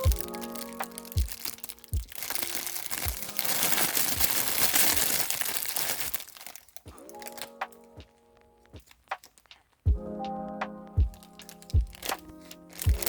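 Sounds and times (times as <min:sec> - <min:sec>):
background music with beat: 0:00.0 - 0:04.7, 0:06.8 - 0:13.0
plastic packaging crinkling: 0:00.0 - 0:09.8, 0:11.2 - 0:13.0.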